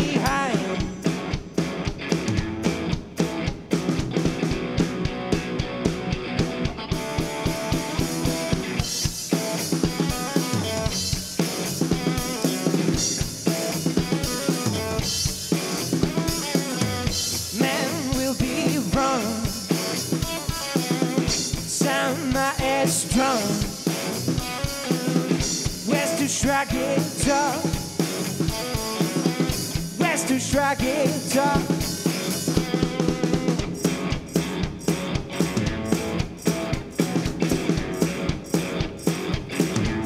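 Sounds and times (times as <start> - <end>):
drum kit: 0.0 - 40.0
electric guitar: 0.0 - 40.0.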